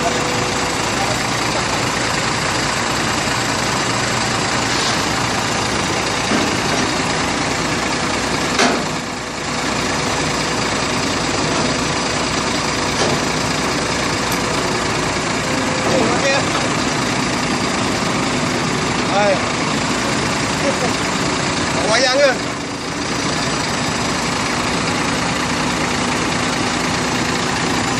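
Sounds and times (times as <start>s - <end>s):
diesel truck engine running: 0.0s - 27.9s.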